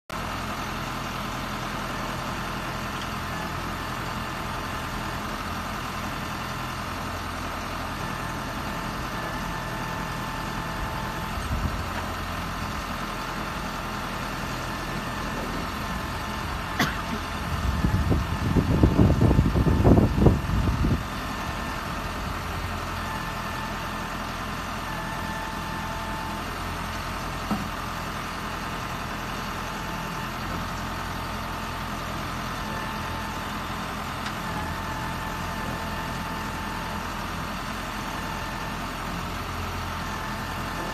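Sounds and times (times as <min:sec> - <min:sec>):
diesel engine running: 0:00.1 - 0:40.9.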